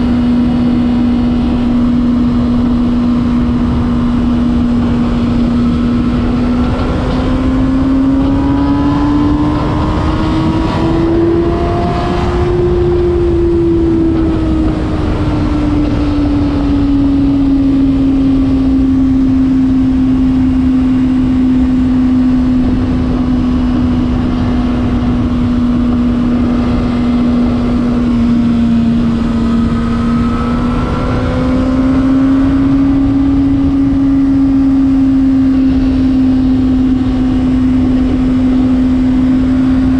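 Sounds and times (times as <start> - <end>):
motorcycle engine at high revs: 0.0 - 39.9
rushing wind noise: 0.0 - 39.9.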